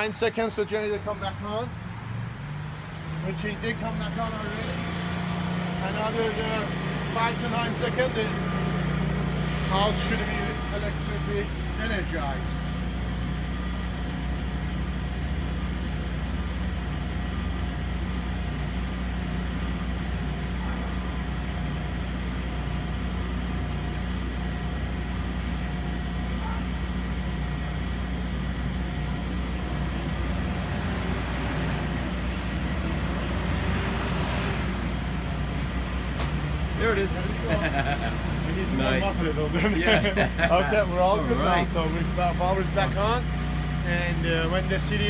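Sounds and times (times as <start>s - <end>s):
generator engine humming: 0.0s - 45.0s.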